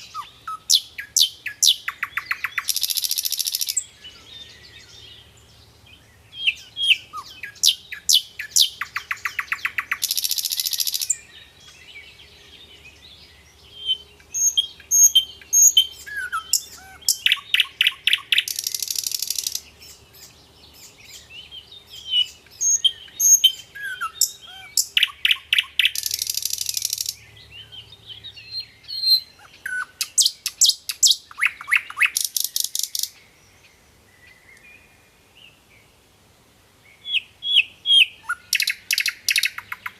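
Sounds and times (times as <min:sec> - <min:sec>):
nightingale singing: 0:00.0 - 0:36.0, 0:36.8 - 0:39.9.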